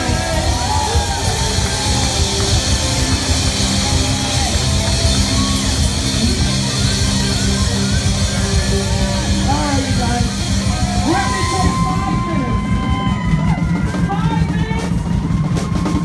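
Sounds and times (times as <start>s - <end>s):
drums: 0.0s - 16.0s
electric guitar: 0.0s - 16.0s
live rock band playing: 0.0s - 16.0s.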